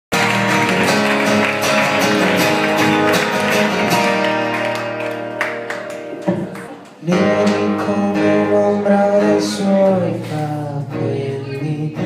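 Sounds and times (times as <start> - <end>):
acoustic guitar strumming: 0.1 - 12.0.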